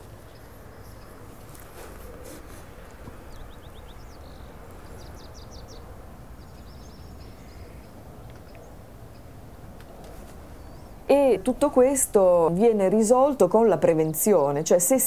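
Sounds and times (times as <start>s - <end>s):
small birds chirping: 0.0s - 13.3s
steady low background noise: 0.0s - 15.0s.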